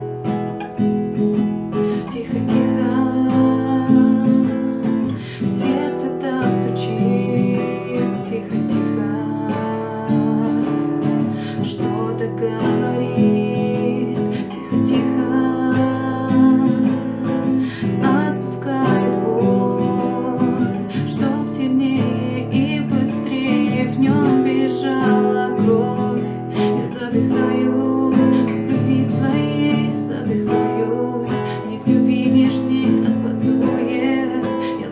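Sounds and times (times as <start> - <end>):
acoustic guitar strumming: 0.0 - 34.9.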